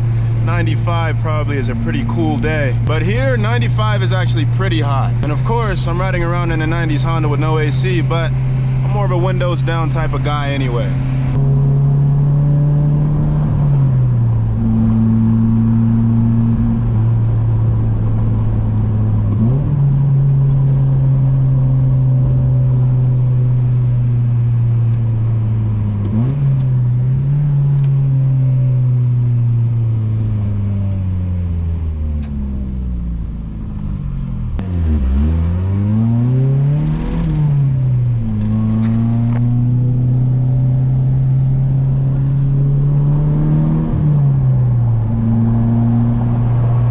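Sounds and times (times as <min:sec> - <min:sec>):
car engine from inside: 0:00.0 - 0:46.9.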